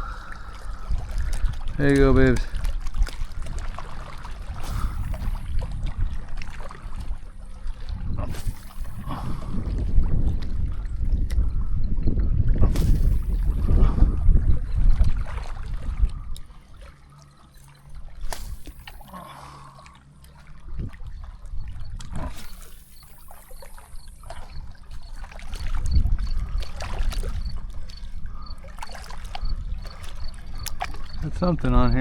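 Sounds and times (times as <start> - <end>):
wind buffeting microphone: 0.0 - 16.7, 20.6 - 32.0
water trickling and splashing: 0.0 - 32.0.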